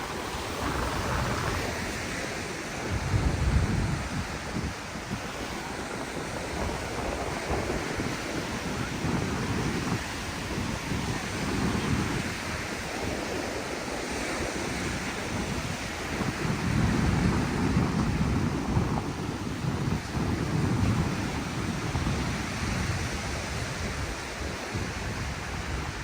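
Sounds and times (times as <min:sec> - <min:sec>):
surf washing onto beach: 0:00.0 - 0:26.0
wind buffeting microphone: 0:00.0 - 0:26.0.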